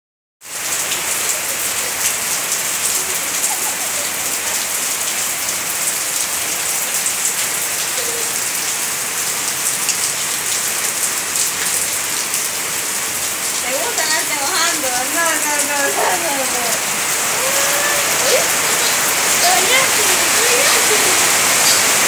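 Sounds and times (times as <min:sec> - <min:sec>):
rain pattering on wet ground: 0:00.4 - 0:22.0.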